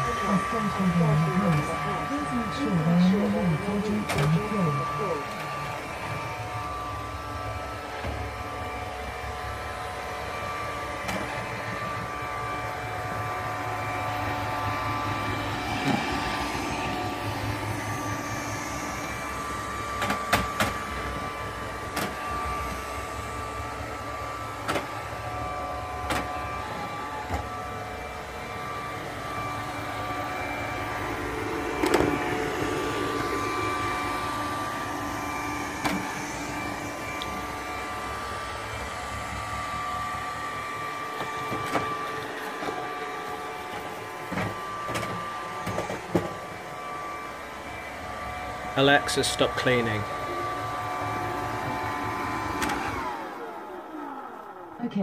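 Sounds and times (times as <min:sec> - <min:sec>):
robot vacuum motor whine: 0:00.0 - 0:55.0.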